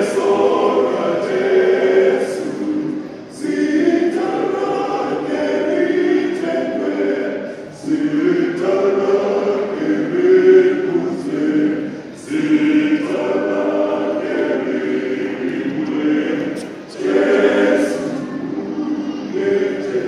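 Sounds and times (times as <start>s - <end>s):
choir singing unaccompanied: 0.0s - 20.0s.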